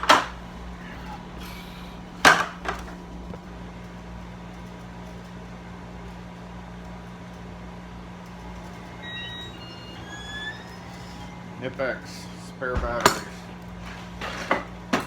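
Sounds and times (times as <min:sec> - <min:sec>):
air conditioner fan humming: 0:00.0 - 0:15.0.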